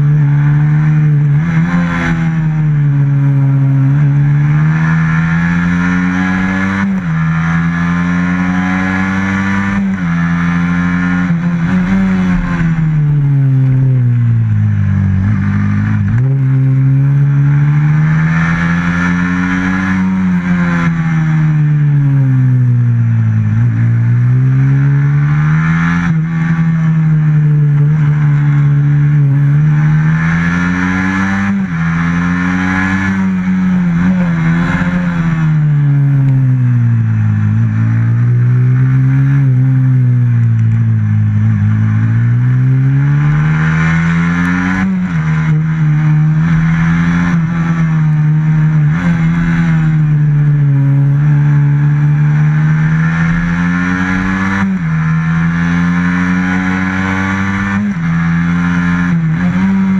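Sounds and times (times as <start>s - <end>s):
racing motorcycle engine revving: 0.0s - 59.9s.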